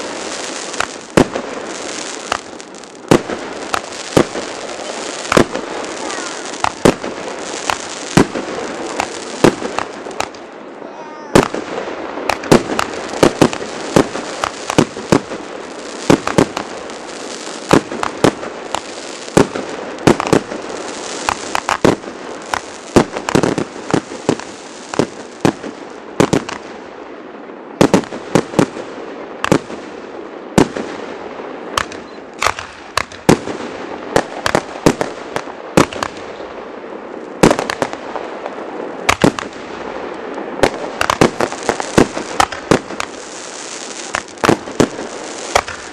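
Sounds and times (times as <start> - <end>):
continuous hiss: 0.0 - 45.9
fireworks bangs: 0.0 - 45.9.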